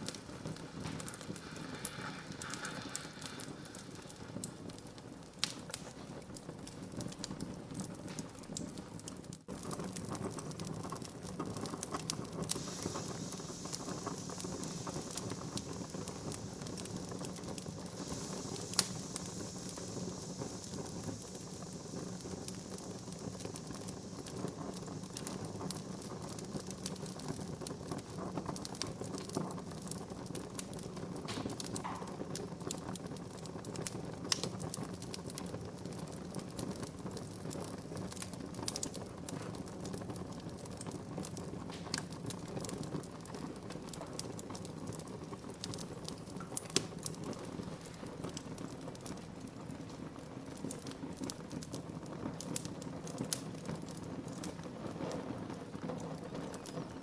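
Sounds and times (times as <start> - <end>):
low rush of flame: 0.0 - 57.0
wood fire crackling: 0.0 - 57.0.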